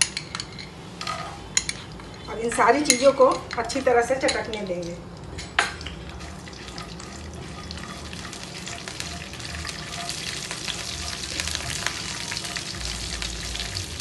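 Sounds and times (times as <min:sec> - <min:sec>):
hot oil sizzling and crackling: 0:01.8 - 0:14.0.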